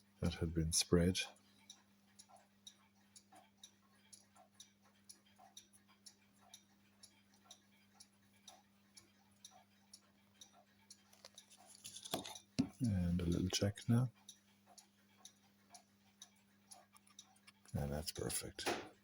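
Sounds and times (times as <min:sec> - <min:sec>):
faint clock ticking: 0:00.0 - 0:19.0.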